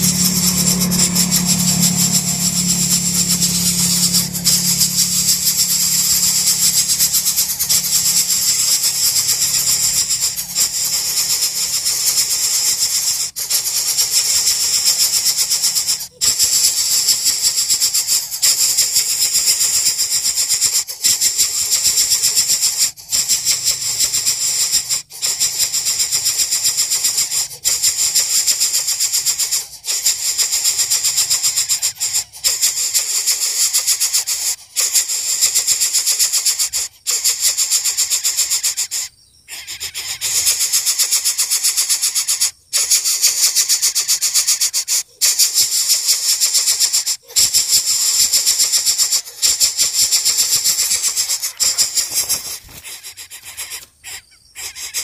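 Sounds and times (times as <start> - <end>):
nestlings begging with rasping hiss: 0.0 - 55.0.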